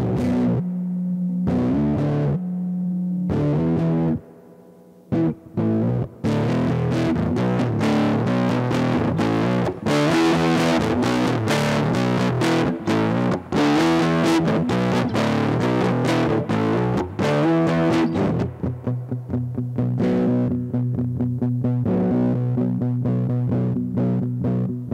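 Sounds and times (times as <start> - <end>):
distorted electric guitar chords: 0.0 - 24.9.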